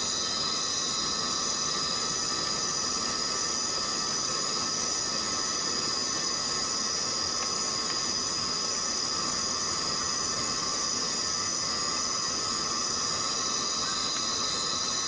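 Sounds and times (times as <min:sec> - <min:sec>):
insect chorus droning: 0:00.0 - 0:15.0.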